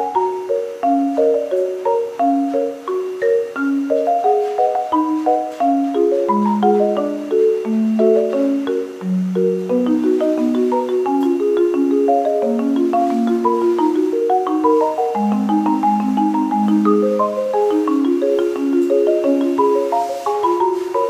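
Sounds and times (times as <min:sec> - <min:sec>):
marimba-like mallet melody: 0:00.0 - 0:21.0.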